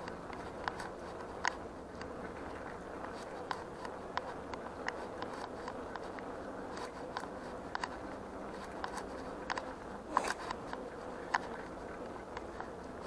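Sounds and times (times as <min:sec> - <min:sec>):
bicycle tyre and road noise: 0:00.0 - 0:13.0.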